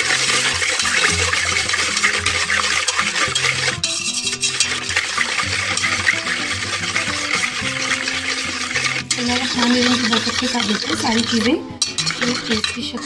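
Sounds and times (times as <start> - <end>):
wire whisk beating in steel bowl: 0.0 - 13.0.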